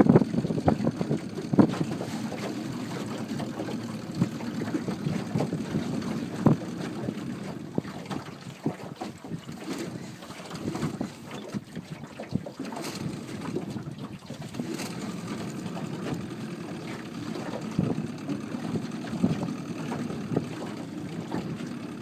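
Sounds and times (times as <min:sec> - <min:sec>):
rumbling wind: 0:00.0 - 0:22.0
water noise: 0:00.0 - 0:22.0.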